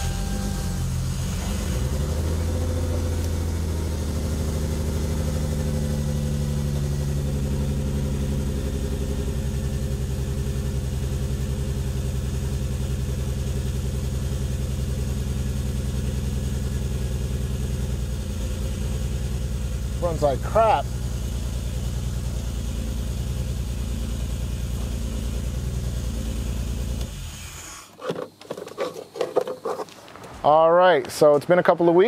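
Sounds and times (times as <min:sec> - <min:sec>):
car engine idling roughly: 0:00.0 - 0:27.5.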